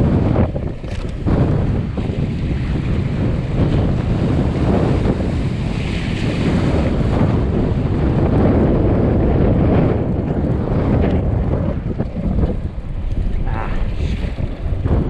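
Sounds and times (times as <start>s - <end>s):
water rushing along hulls: 0.0s - 15.0s
wind buffeting microphone: 0.0s - 15.0s.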